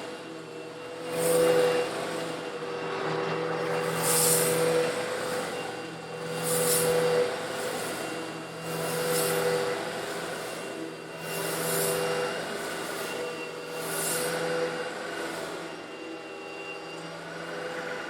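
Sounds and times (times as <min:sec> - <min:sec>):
vacuum cleaner motor hum: 0:00.0 - 0:18.0.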